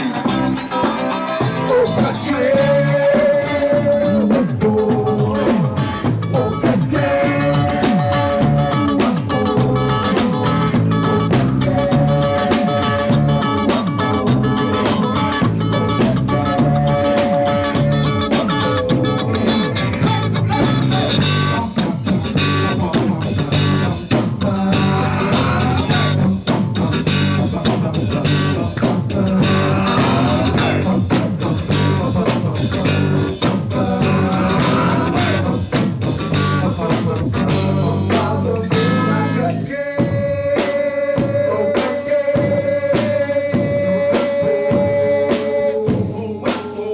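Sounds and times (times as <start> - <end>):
repeating bass line: 0.0 - 39.7
drum kit beat: 0.0 - 46.9
guitar: 0.0 - 46.9.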